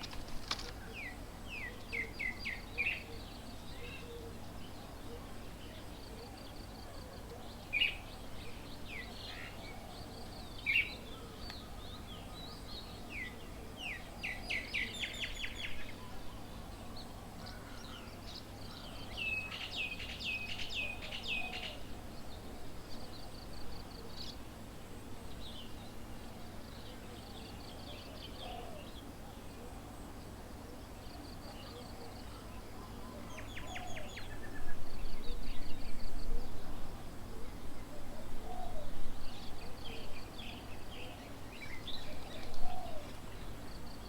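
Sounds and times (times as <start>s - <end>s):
low background noise: 0.0s - 44.0s.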